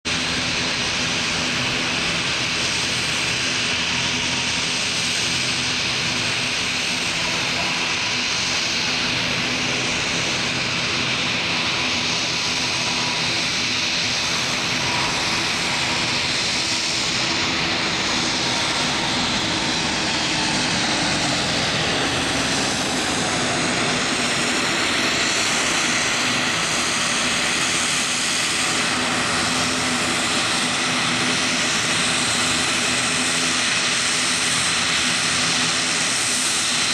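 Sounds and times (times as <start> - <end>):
jet engines whining: 0.1 - 36.9
turboprop engines droning: 0.1 - 36.9.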